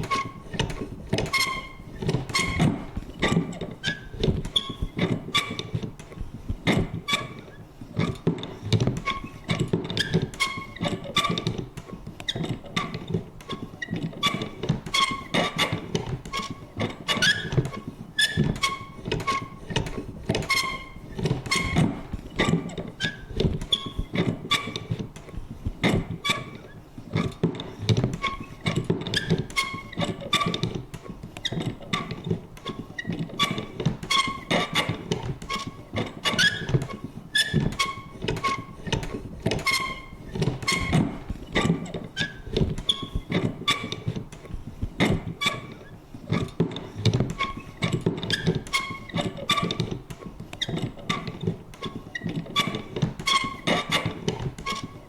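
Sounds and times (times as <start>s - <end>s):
paper punch squeaky creak: 0.0s - 5.8s, 12.3s - 25.3s, 25.9s - 44.5s, 45.2s - 55.0s.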